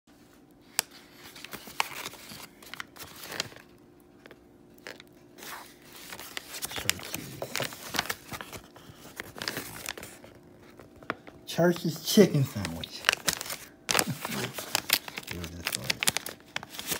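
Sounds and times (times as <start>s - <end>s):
paper bag crinkling: 0.8s - 16.9s.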